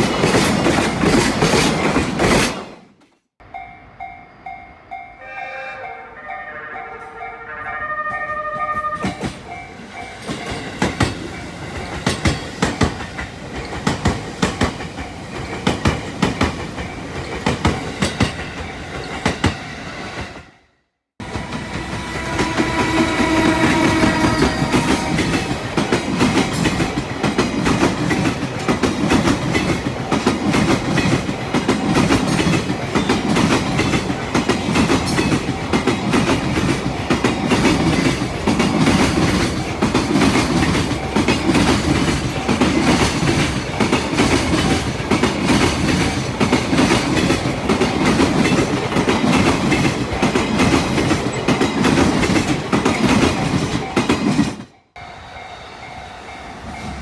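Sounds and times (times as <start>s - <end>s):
train wheels clattering on rails: 0.0s - 3.2s, 8.7s - 20.4s, 21.2s - 57.0s.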